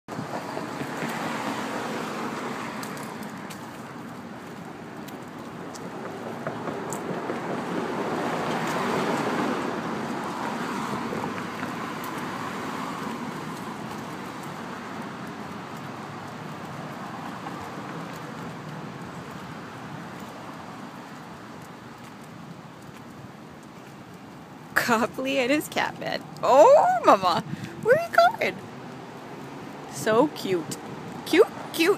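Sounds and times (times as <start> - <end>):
car passing: 0.1 - 31.9.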